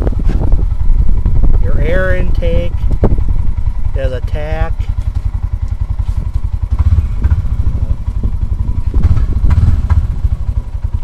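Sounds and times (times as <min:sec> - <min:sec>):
single-cylinder engine running: 0:00.0 - 0:11.0.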